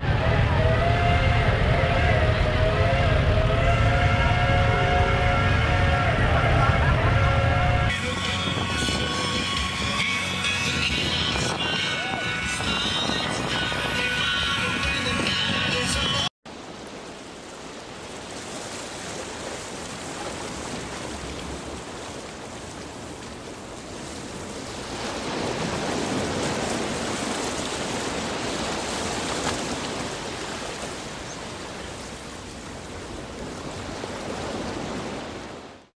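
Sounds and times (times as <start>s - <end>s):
waves breaking: 0.0s - 35.9s.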